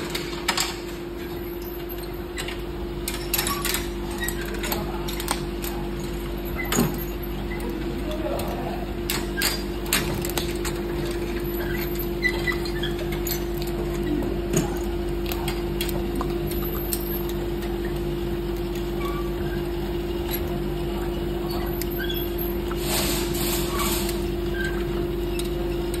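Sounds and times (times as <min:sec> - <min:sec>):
moulding machine humming: 0:04.8 - 0:26.0.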